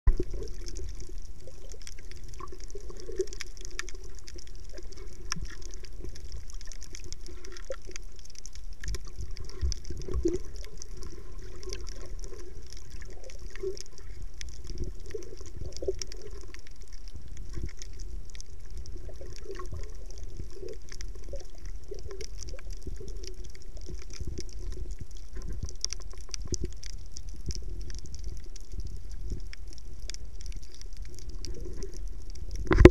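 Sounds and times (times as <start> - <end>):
underwater rumble of moving water: 0.0 - 32.9
faint crackling and clicking: 0.1 - 32.9.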